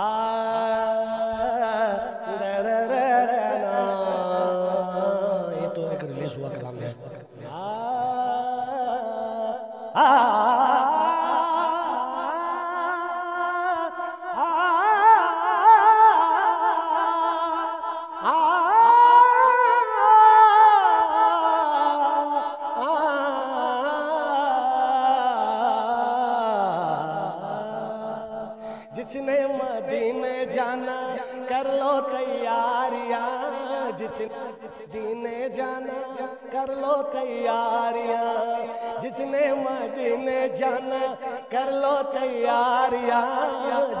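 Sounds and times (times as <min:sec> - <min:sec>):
man singing unaccompanied: 0:00.0 - 0:44.0.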